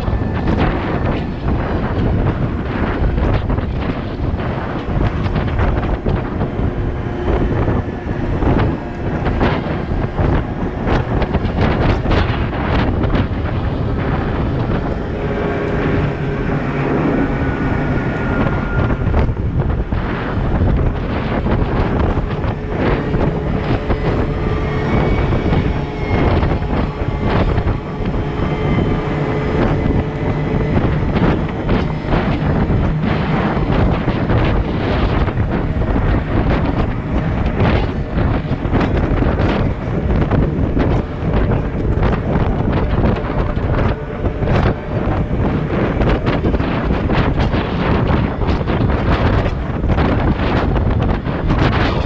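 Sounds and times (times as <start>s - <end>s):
heavy diesel machinery running: 0.0s - 52.0s
wind buffeting microphone: 0.0s - 52.0s.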